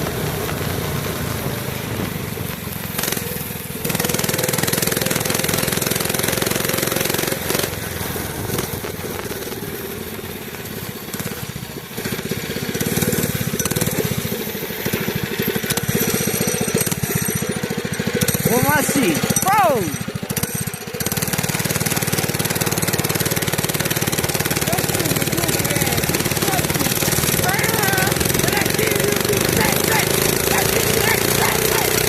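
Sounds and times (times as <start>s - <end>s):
small engine chugging: 0.0s - 32.0s.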